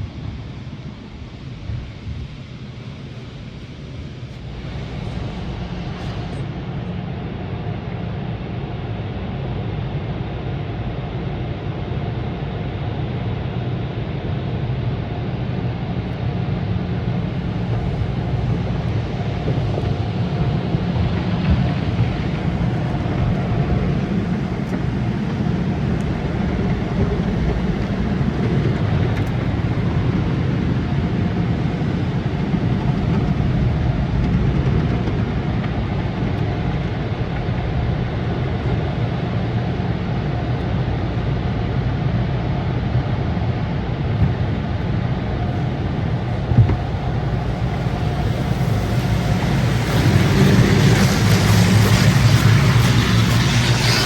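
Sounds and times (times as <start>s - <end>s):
car wash machinery running: 0.0s - 54.0s.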